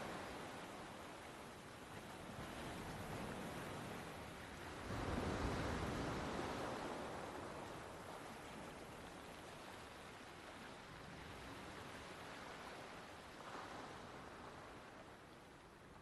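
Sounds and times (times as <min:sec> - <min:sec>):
faint rushing water: 0:00.0 - 0:16.0.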